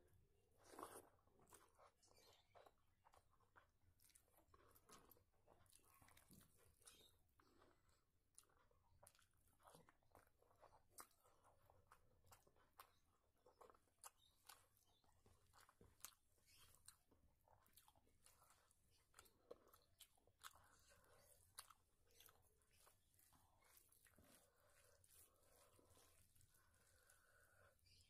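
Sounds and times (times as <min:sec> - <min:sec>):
chewing and mouth smacks: 0:00.5 - 0:28.0.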